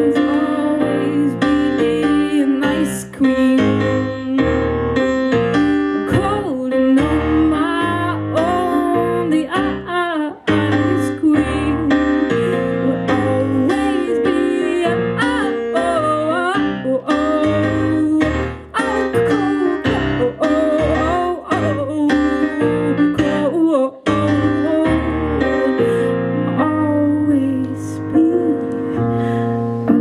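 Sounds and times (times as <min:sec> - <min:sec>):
woman singing: 0:00.0 - 0:04.9, 0:06.0 - 0:30.0
piano chords: 0:00.0 - 0:30.0.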